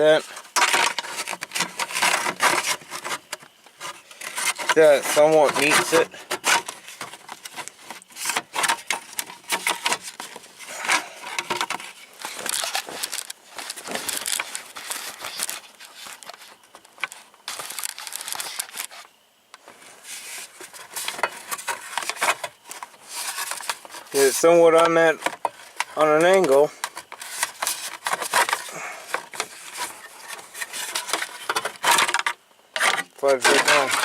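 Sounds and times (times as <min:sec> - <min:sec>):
parts clicking and rattling: 0:00.0 - 0:34.0.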